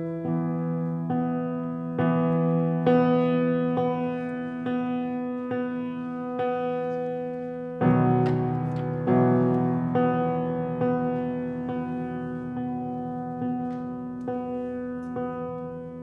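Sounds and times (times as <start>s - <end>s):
piano chords ringing: 0.0s - 16.0s.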